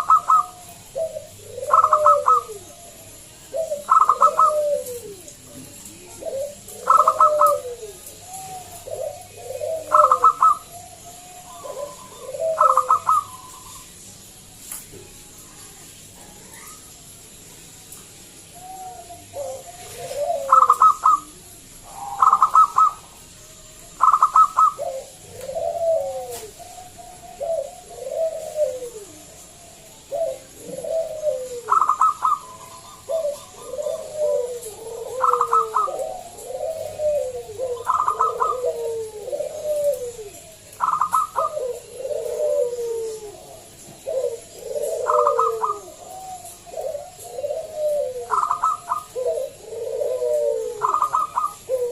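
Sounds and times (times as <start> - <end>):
dove cooing: 0.0 - 14.0, 18.3 - 51.9.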